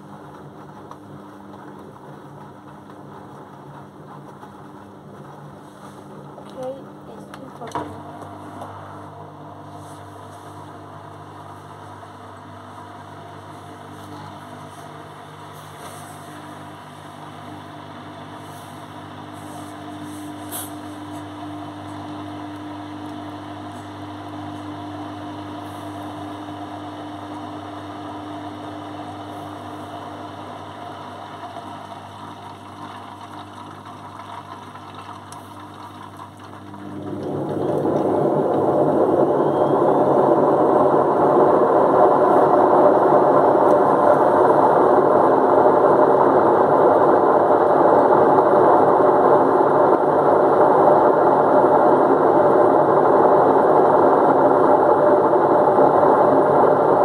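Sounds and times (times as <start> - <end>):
drum tumbling wet laundry: 0.0 - 57.0
washing machine humming: 0.0 - 57.0.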